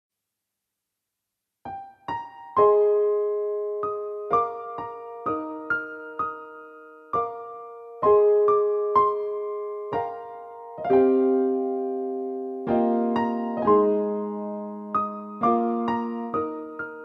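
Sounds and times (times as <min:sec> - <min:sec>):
slow electric piano: 0:01.7 - 0:17.0.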